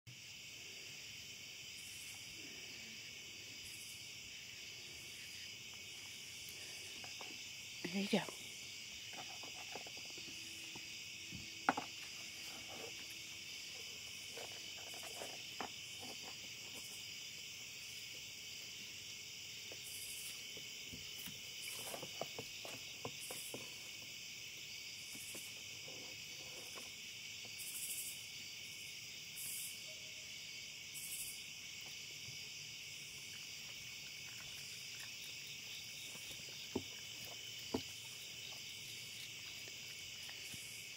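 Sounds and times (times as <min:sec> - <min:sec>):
crickets chirring: 0:00.1 - 0:40.9.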